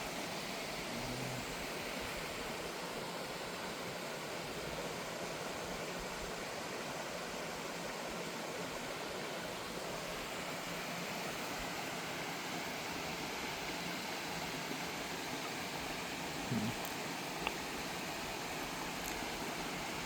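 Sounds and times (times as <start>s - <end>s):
small waterfall rushing: 0.0s - 20.0s.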